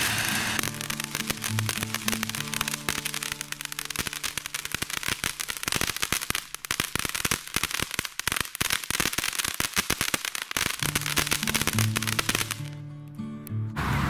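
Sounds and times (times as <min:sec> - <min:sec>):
firework cracks and pops: 0:00.0 - 0:13.2.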